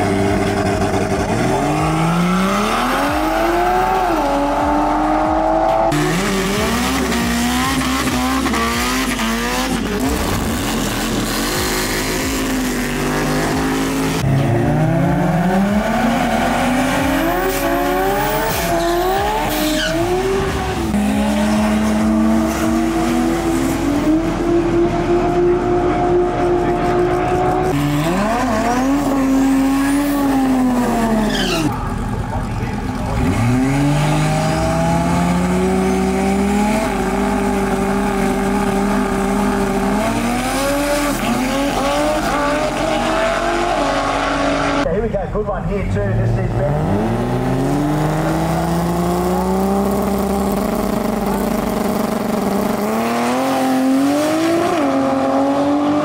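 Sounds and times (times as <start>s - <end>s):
racing car engine revving: 0.0s - 44.9s, 45.8s - 56.0s.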